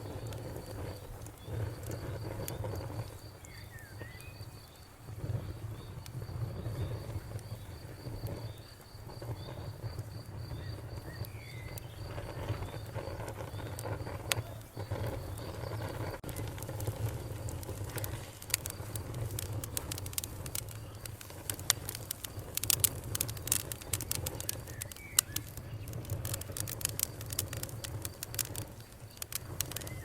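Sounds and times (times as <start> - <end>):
cricket chirping: 0.0 - 30.0
low rumbling flame: 0.0 - 30.0
wood fire crackling: 0.0 - 30.0.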